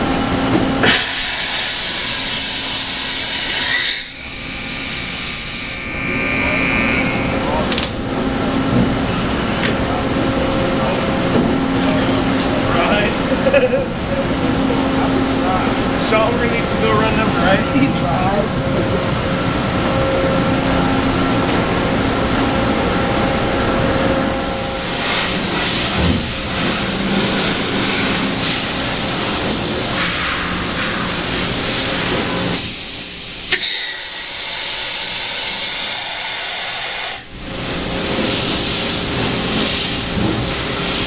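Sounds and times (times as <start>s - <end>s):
steady hissing machine noise: 0.0s - 41.0s.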